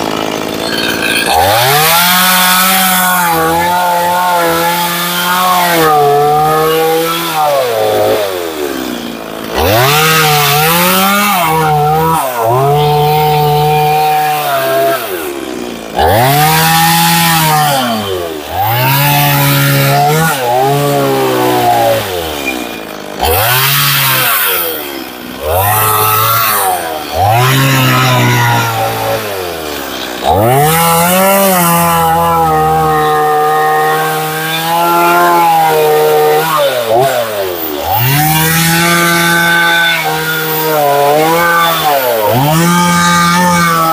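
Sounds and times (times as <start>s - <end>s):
chainsaw revving and cutting: 0.0s - 43.9s.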